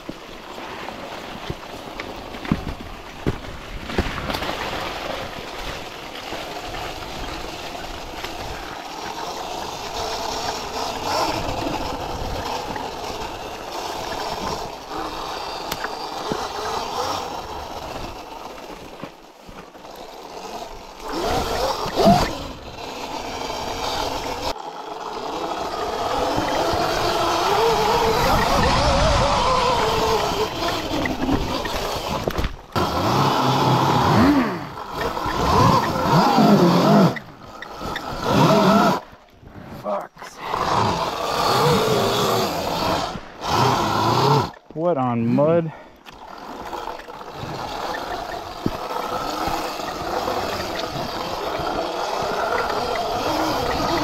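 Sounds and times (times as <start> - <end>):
electric motorbike motor whine: 5.6 - 39.2, 40.4 - 44.7, 46.1 - 54.0.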